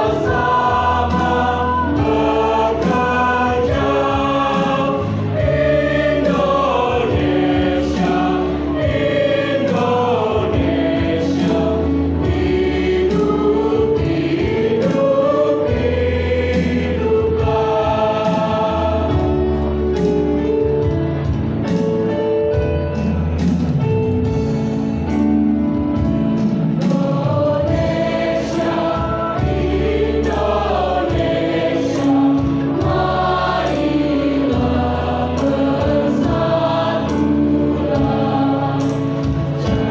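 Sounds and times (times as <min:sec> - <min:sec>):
choir singing: 0:00.0 - 0:21.0, 0:26.0 - 0:39.9.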